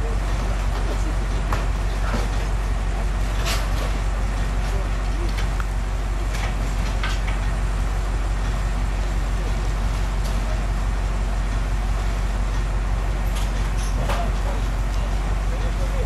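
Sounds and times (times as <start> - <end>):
fire engine engine humming: 0.0 - 16.0.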